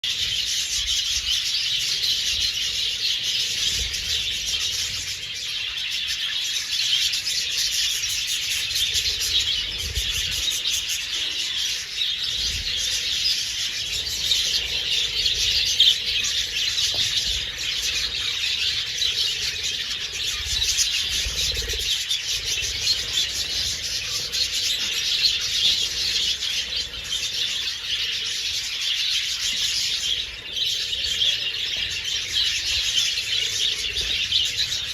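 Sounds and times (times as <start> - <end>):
flock of budgerigars chattering: 0.0 - 34.9.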